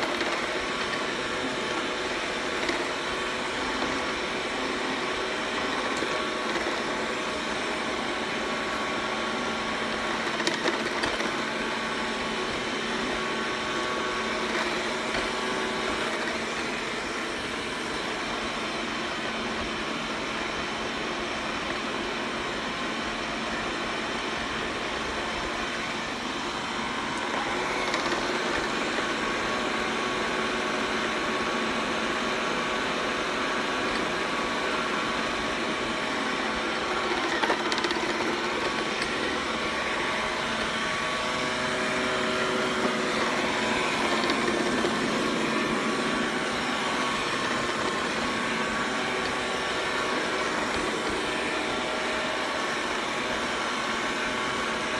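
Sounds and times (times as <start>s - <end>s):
robot vacuum whirring: 0.0s - 54.9s.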